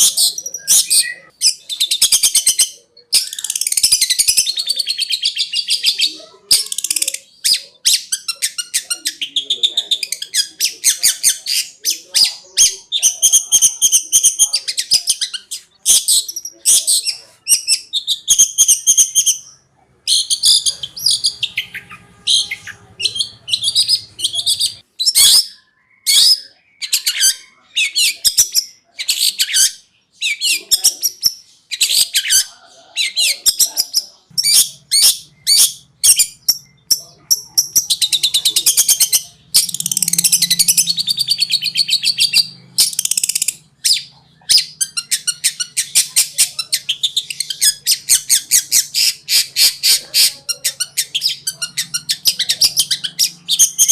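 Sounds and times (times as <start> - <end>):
shrike singing rapid chattering song: 0.0 - 53.9.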